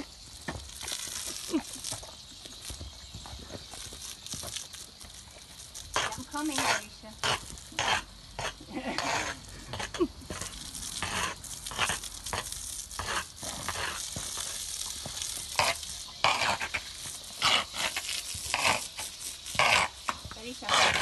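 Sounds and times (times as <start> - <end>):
water hissing from hose spray: 0.0 - 21.0.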